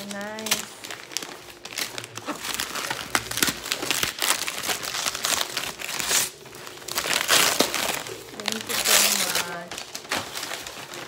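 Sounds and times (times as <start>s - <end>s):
wrapping paper crumpling: 0.0s - 11.0s.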